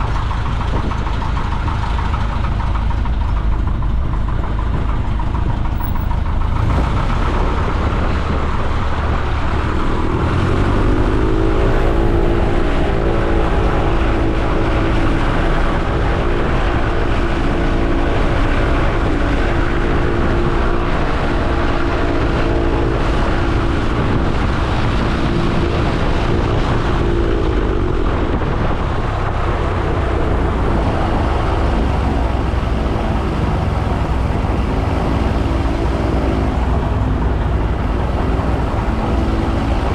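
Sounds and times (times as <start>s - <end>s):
airplane engine droning: 0.0s - 39.9s
wind noise: 0.0s - 39.9s.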